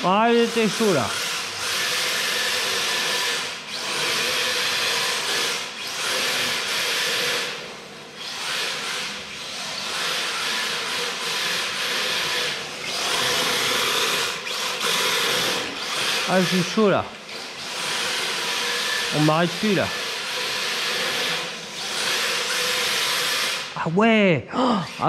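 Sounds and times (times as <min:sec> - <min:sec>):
electric motor whine: 0:00.0 - 0:23.8.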